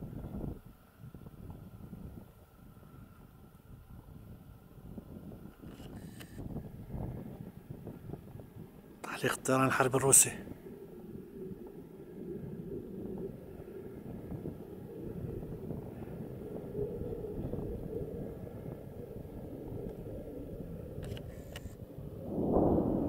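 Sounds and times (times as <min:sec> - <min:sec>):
distant jet engine rumble: 0:00.0 - 0:23.0.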